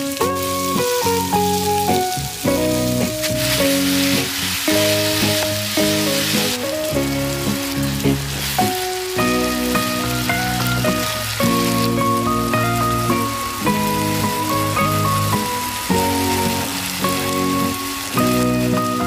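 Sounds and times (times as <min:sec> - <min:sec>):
meat and onions sizzling: 0:00.0 - 0:19.0
melodic background music: 0:00.0 - 0:19.0.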